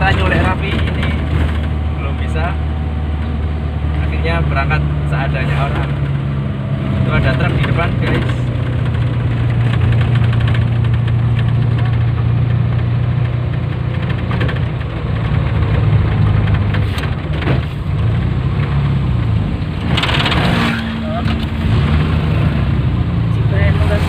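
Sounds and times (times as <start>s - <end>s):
van engine running: 0.0s - 24.0s.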